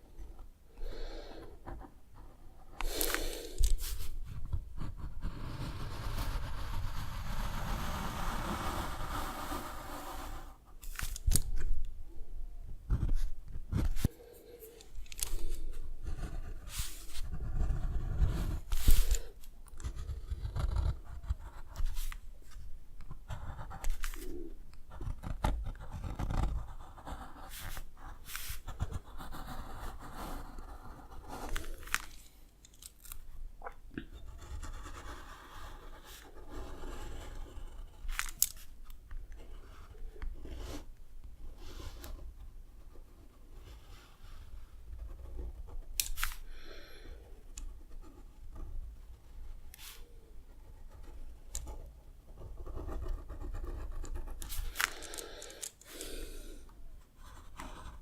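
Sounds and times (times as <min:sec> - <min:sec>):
drawing tool scratching paper: 0:01.4 - 0:11.2, 0:15.1 - 0:32.2, 0:34.1 - 0:38.8, 0:39.4 - 0:46.6, 0:47.4 - 0:56.0, 0:57.2 - 0:58.0.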